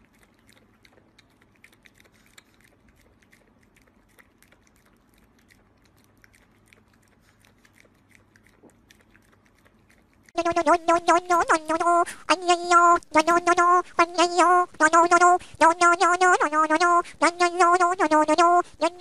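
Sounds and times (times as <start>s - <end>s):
dog lapping and chewing: 0.0s - 18.9s.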